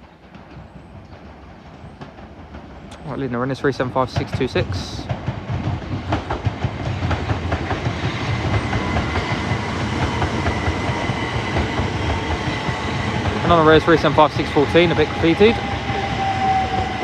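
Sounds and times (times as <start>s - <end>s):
train rumbling into platform: 0.0s - 17.0s.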